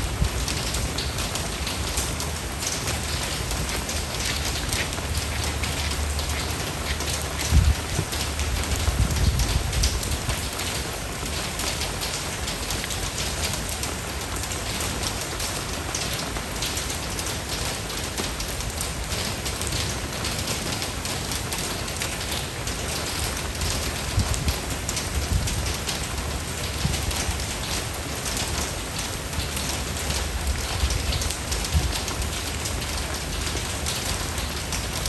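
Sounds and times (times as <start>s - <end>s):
steady rain hissing: 0.0s - 35.0s.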